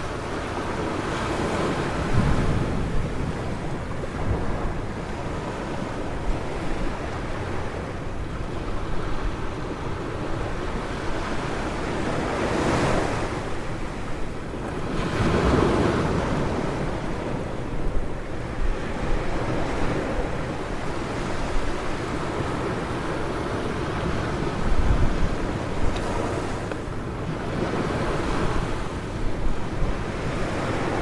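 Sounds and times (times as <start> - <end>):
ocean waves washing onto beach: 0.0 - 31.0
wind buffeting microphone: 0.0 - 31.0.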